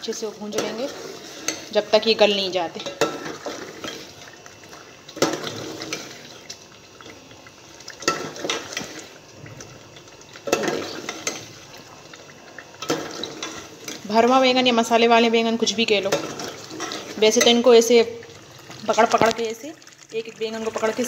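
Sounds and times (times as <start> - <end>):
food sizzling: 0.0 - 21.0.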